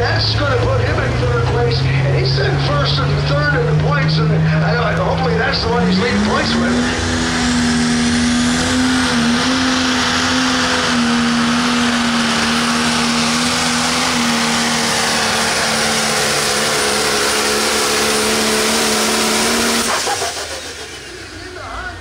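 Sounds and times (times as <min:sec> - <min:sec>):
diesel engine at full throttle: 0:00.0 - 0:22.0.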